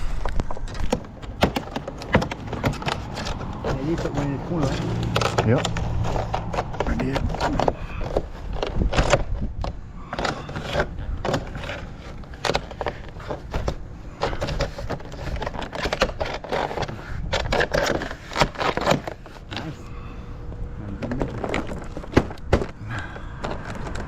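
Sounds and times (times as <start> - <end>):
vinyl siding panels scraping and knocking: 0.0 - 24.0.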